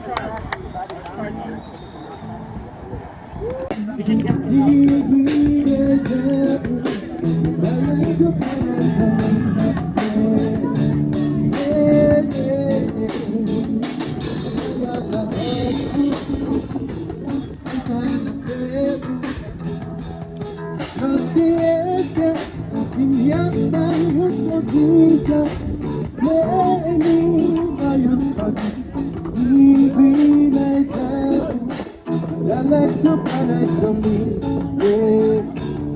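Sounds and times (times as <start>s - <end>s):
guitar: 2.2s - 35.9s
person singing: 3.6s - 35.9s
steady drum beat: 3.7s - 35.9s.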